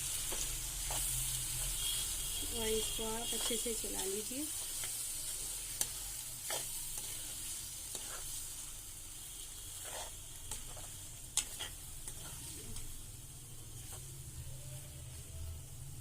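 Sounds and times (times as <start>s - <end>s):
pasta sizzling in a frying pan: 0.0s - 16.0s.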